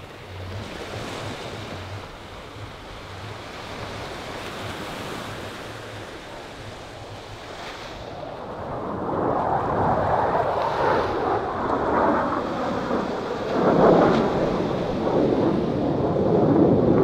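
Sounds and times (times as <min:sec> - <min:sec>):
jet engines flying overhead: 0:00.0 - 0:17.0.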